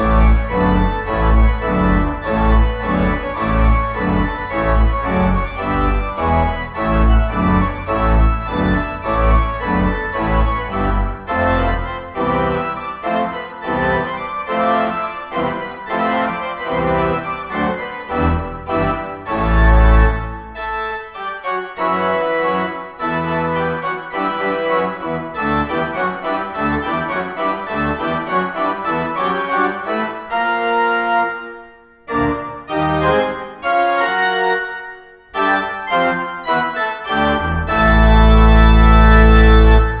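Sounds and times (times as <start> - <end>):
organ music: 0.0 - 40.0.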